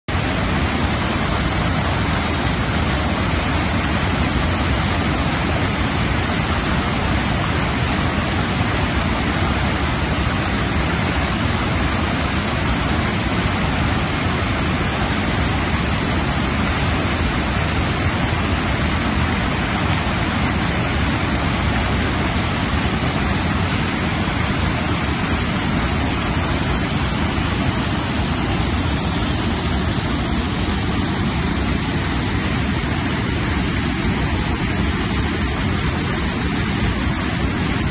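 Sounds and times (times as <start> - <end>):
river rushing over a weir: 0.1 - 37.9.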